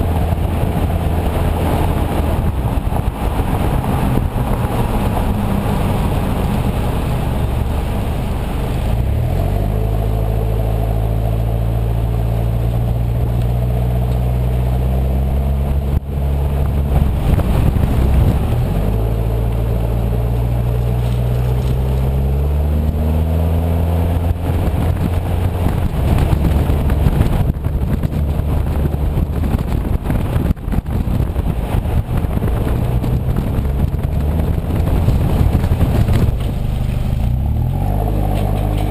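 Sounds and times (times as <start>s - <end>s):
diesel engine accelerating: 0.0s - 38.9s
road noise: 0.0s - 38.9s.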